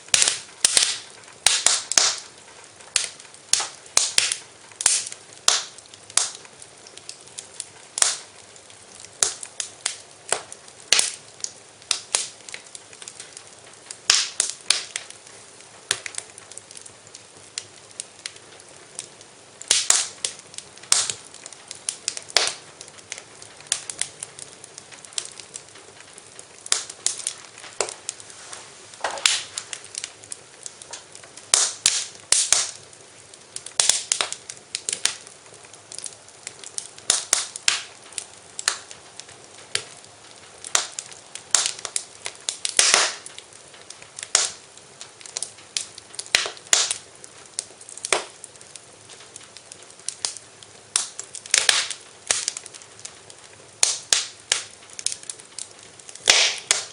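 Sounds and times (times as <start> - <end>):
faint steady hiss: 0.0 - 56.9
sharp pops from fire: 0.0 - 56.9
wood fire crackling: 0.0 - 56.9.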